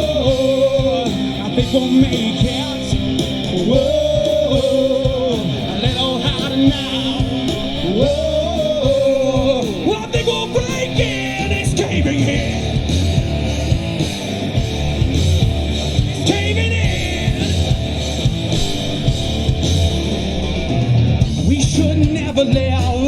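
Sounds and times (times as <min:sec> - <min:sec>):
drum hits: 0:00.0 - 0:23.0
heavy bass: 0:00.0 - 0:23.0
live rock band playing: 0:00.0 - 0:23.0.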